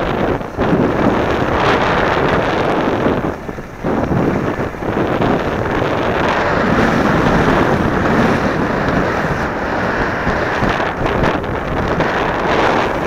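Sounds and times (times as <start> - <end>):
wind buffeting microphone: 0.0 - 13.0
skis scraping on snow: 0.1 - 13.0.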